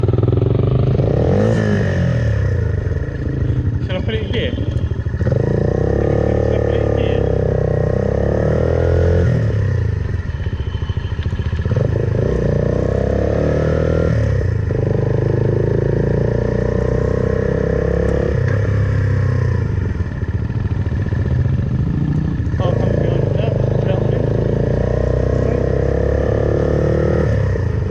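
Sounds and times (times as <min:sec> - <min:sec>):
motorcycle engine accelerating: 0:00.0 - 0:27.9.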